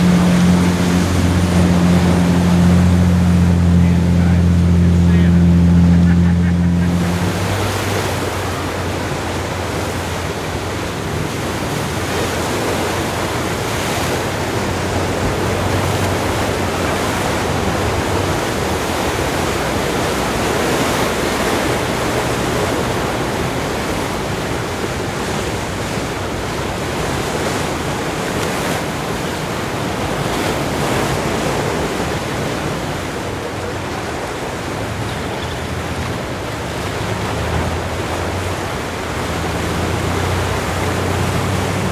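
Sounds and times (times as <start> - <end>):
ocean surf breaking on sand: 0.0 - 41.9
wind: 0.0 - 41.9.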